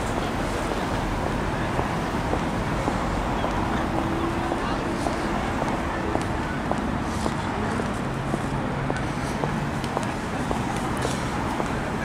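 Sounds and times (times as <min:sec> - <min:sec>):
cars on street: 0:00.0 - 0:12.0.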